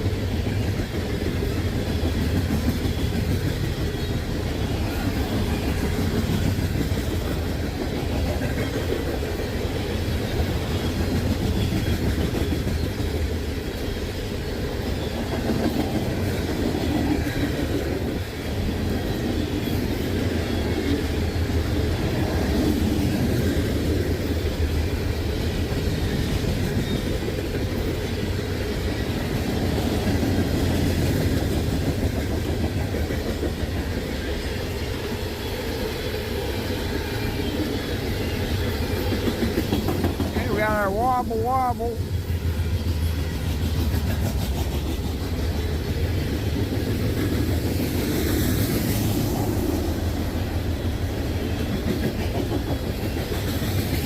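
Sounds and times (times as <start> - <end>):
freight train wheels clacking: 0.0 - 54.0.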